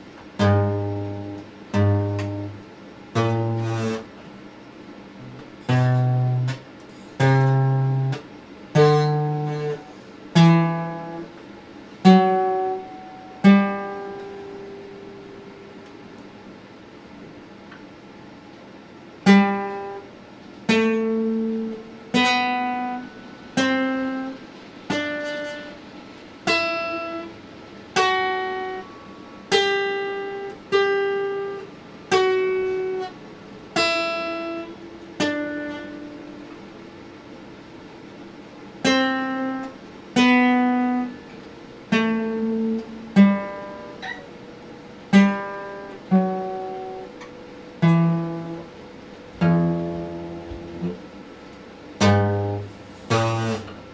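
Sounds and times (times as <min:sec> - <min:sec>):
acoustic guitar plucked notes: 0:00.0 - 0:04.5, 0:05.1 - 0:16.3, 0:19.1 - 0:53.9.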